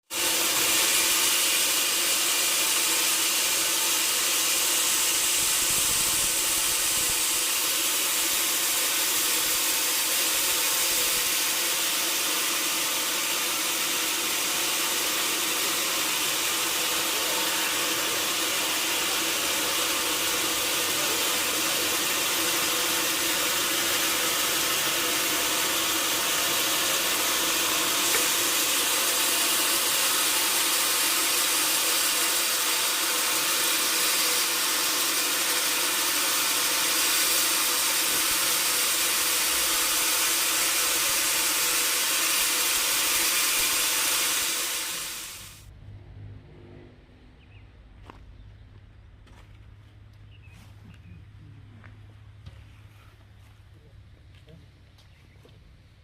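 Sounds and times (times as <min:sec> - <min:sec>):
sawmill saw hissing: 0:00.0 - 0:45.7
machinery hum: 0:00.1 - 0:56.0.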